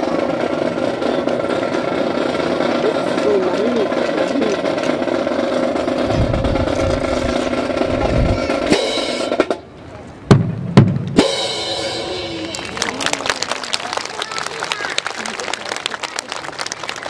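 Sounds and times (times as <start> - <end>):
crowd hubbub: 0.0 - 10.3, 11.5 - 17.0.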